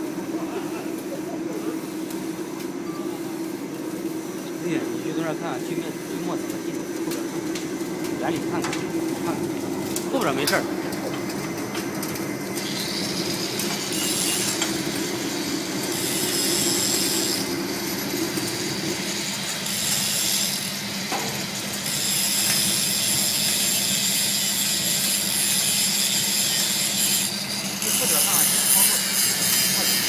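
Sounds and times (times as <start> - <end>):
sawdust burner rushing and humming: 0.0 - 30.0.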